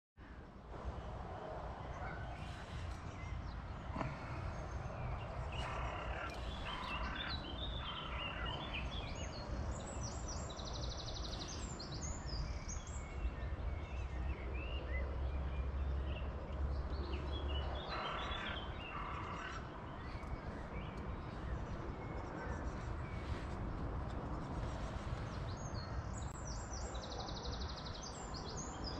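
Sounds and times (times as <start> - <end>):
songbirds singing and chirping: 0.2 - 28.9.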